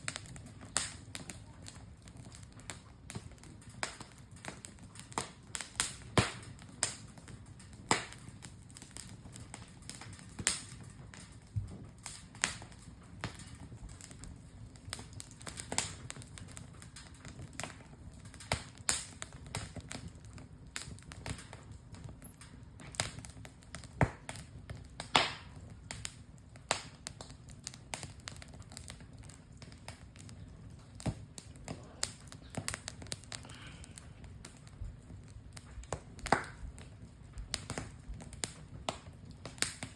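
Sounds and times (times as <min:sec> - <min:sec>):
campfire crackling and popping: 0:00.0 - 0:39.9
faint hiss of burning: 0:00.0 - 0:39.9.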